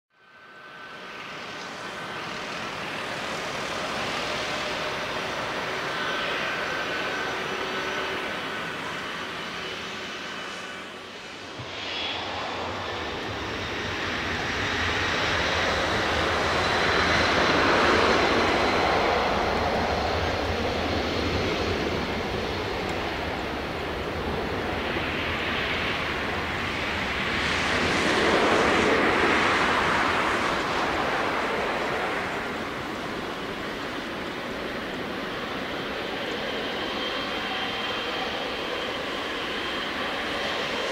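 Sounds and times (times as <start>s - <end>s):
faint high whine: 0.2s - 40.9s
jet engine roar: 0.2s - 40.9s.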